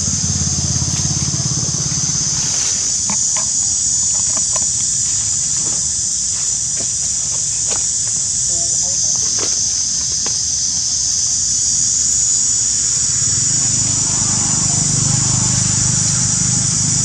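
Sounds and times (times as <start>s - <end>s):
high-pitched insect buzzing: 0.0s - 17.0s.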